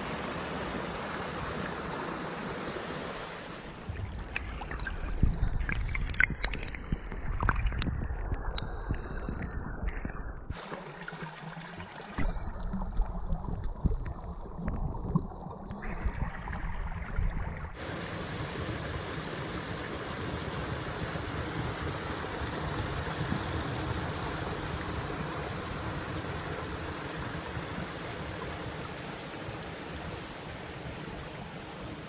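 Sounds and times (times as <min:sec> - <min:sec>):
small stream running: 0:00.0 - 0:09.5, 0:10.4 - 0:32.0.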